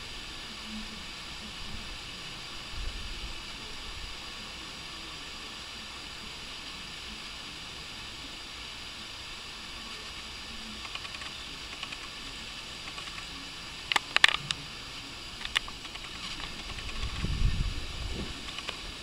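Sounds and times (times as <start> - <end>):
outdoor garden ambience hiss: 0.0 - 19.0.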